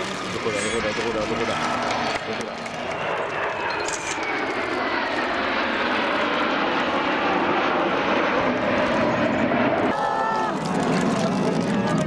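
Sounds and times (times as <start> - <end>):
jet aircraft roar: 0.0 - 12.0
jet engine whine falling: 0.0 - 12.0.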